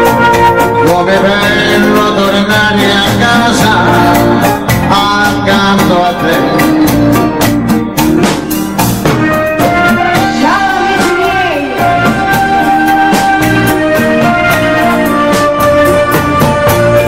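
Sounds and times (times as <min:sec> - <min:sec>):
drum kit beat: 0:00.0 - 0:17.0
live dance band music: 0:00.0 - 0:17.0.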